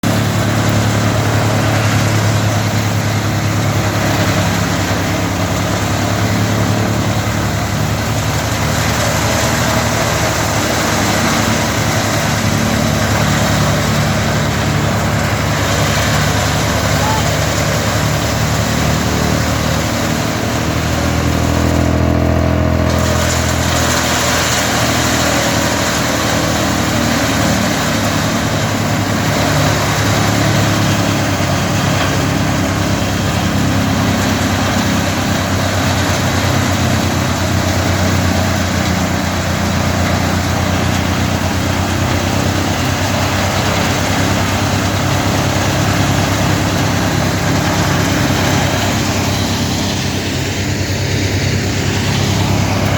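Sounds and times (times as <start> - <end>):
wood chipper engine drone: 0.0 - 52.9.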